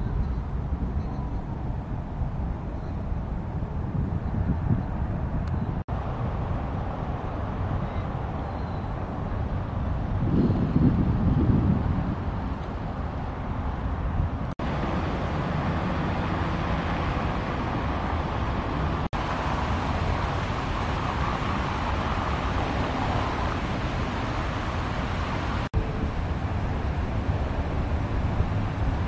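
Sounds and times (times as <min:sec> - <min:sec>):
moving vehicle rumble: 0:00.0 - 0:29.0.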